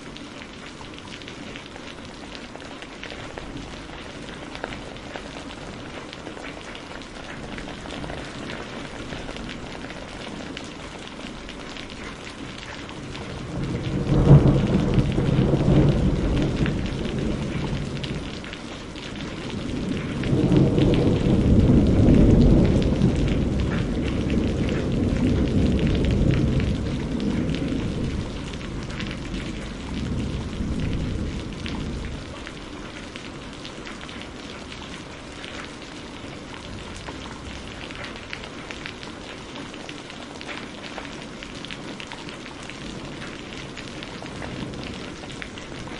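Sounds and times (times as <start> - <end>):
heavy rain: 0.0 - 45.9
thunder clap and rumble: 3.3 - 39.0, 42.7 - 45.9.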